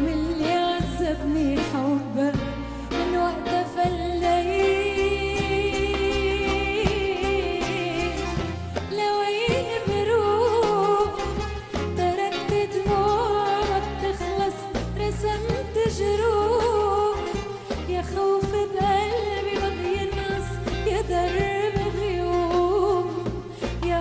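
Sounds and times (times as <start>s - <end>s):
song with bass beat: 0.0s - 24.0s.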